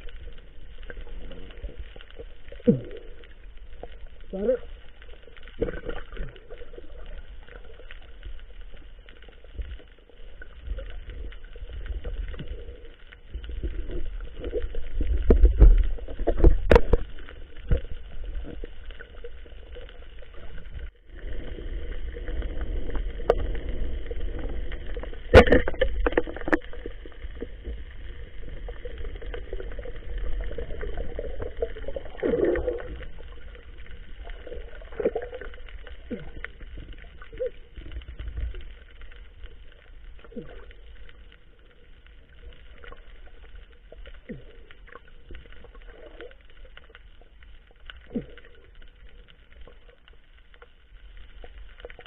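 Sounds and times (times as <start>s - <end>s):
muffled underwater water movement: 0.0s - 52.0s.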